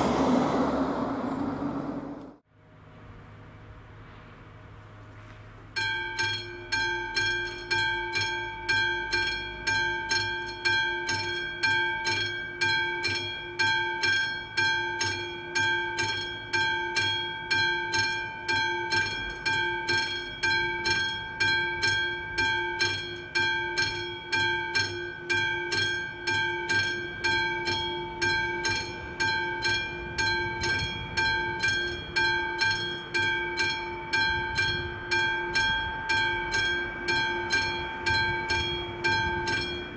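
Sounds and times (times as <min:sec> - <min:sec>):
level crossing bell ringing: 0:05.8 - 0:39.9.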